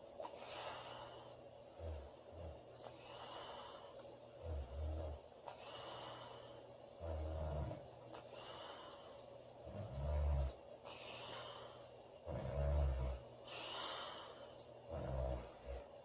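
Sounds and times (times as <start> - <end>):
woman snoring: 1.8 - 8.7, 9.6 - 16.0.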